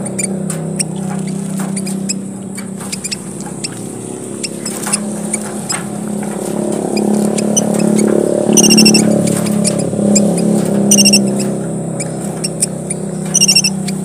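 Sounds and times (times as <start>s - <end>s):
small finches chirping: 0.0s - 6.3s, 6.9s - 14.0s
steady low hum: 0.0s - 14.0s.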